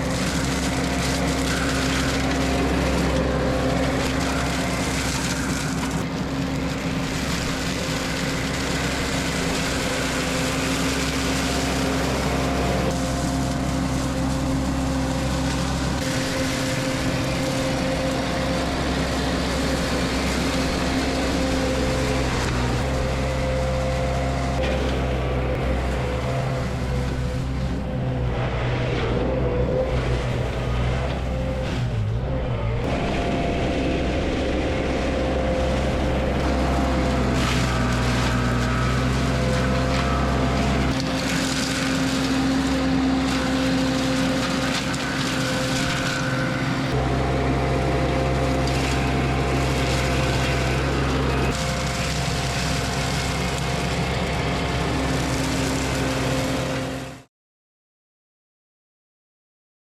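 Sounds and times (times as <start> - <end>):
skid steer engine under load: 0.0 - 57.3.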